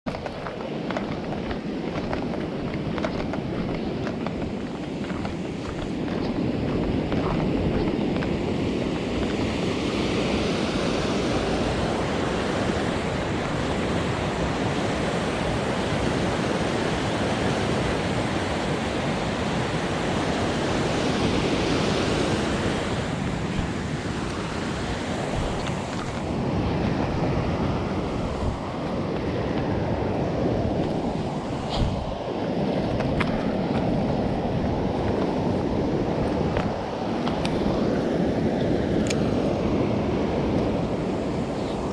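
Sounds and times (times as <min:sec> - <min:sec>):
stream water rushing: 0:00.1 - 0:41.9.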